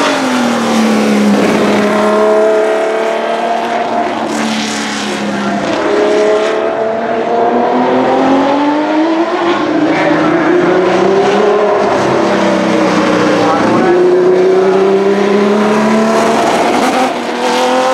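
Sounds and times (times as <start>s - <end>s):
racing car engine passing: 0.0s - 17.9s.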